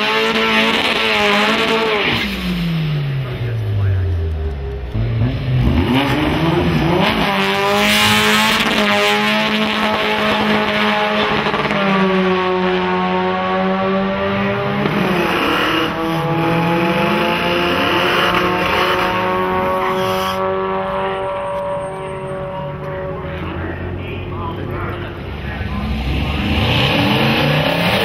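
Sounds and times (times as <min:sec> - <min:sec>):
cars accelerating hard: 0:00.0 - 0:28.0.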